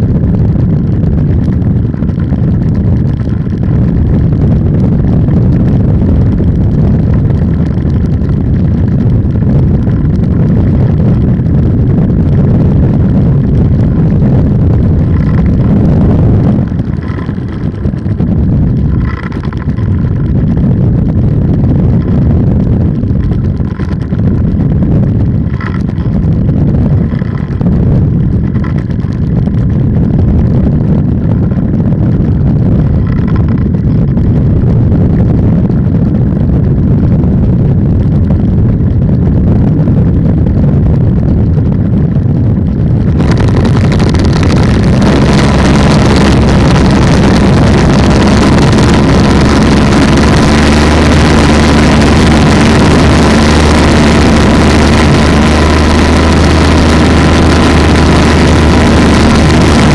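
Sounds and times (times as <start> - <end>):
two-stroke engine running: 0.0 - 59.9.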